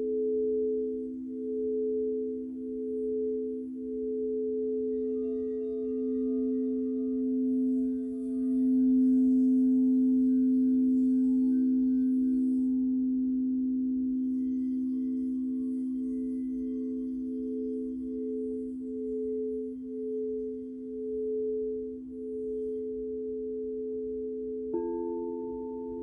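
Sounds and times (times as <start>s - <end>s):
crystal singing bowls humming: 0.0s - 26.0s.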